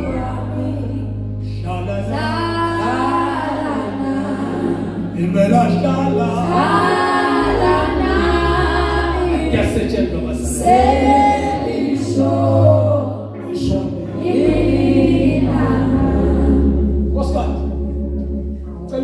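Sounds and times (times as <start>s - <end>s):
voices singing along: 0.0s - 18.1s
held low notes: 0.0s - 19.0s.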